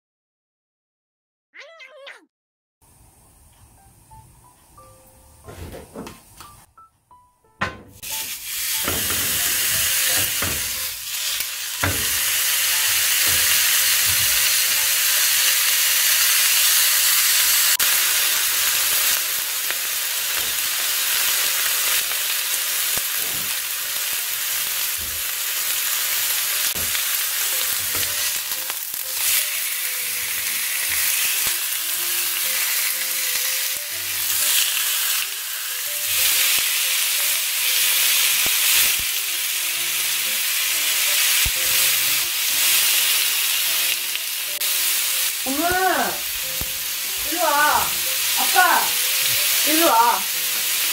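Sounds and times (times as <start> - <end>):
beef sizzling on grill pan: 8.0 - 50.9.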